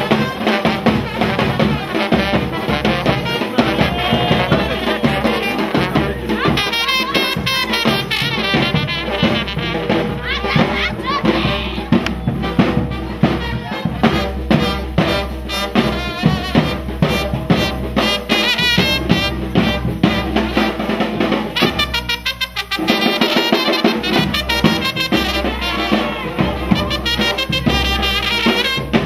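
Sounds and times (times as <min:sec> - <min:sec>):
brass band playing dance tune: 0:00.0 - 0:29.0.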